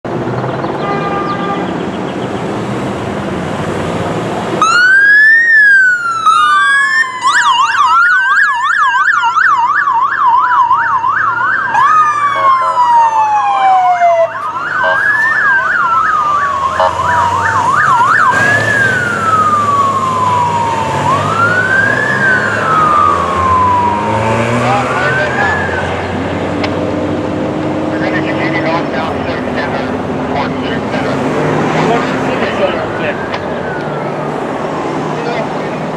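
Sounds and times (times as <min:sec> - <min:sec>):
road and engine noise: 0:00.0 - 0:35.9
police siren wailing and yelping: 0:04.6 - 0:26.3, 0:27.9 - 0:35.9.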